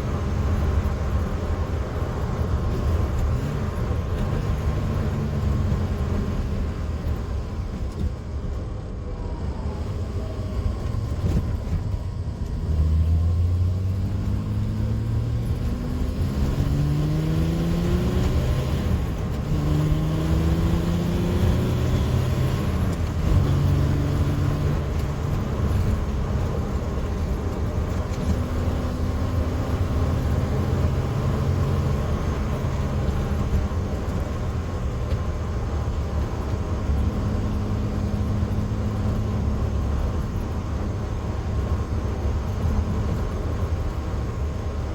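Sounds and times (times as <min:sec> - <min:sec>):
car engine pulling through gears: 0:00.0 - 0:44.9
low road rumble: 0:00.0 - 0:44.9.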